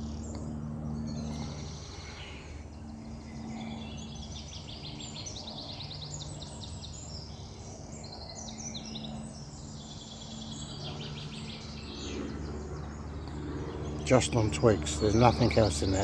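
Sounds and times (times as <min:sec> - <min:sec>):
low background hum: 0:00.0 - 0:16.0
songbirds singing: 0:00.0 - 0:16.0.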